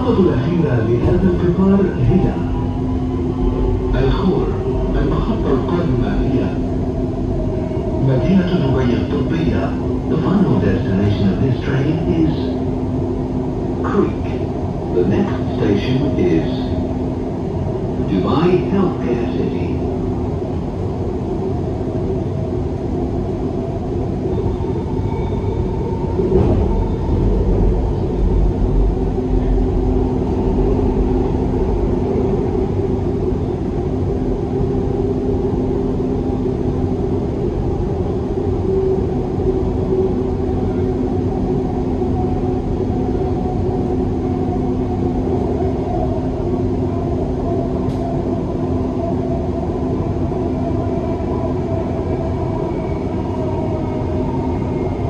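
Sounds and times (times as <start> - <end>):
train rumbling inside carriage: 0.0 - 55.0.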